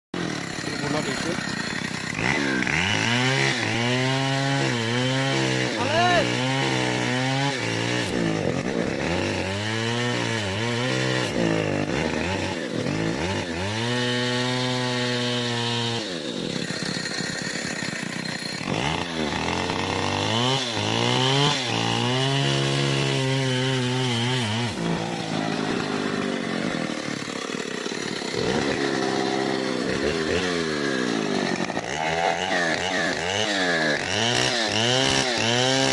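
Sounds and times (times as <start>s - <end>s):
chainsaw cutting wood: 0.2s - 35.9s.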